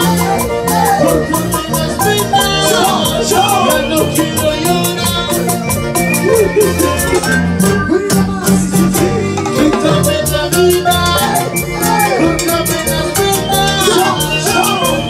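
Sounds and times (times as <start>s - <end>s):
live latin dance band: 0.0s - 15.0s.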